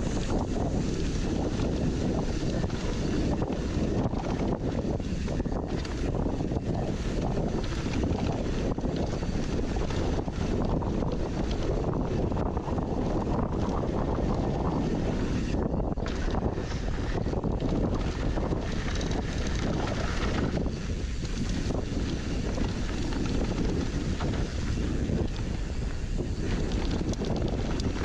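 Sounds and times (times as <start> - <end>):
tyres rolling on dirt trail: 0.0 - 28.0
wind rushing over microphone: 0.0 - 28.0.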